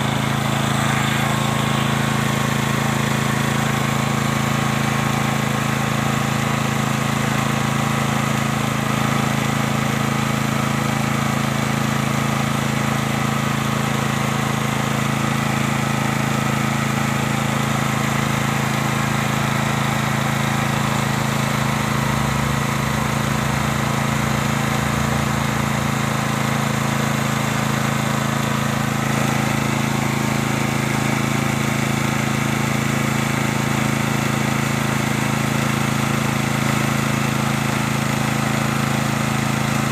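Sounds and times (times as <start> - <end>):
petrol generator engine humming: 0.0 - 39.9.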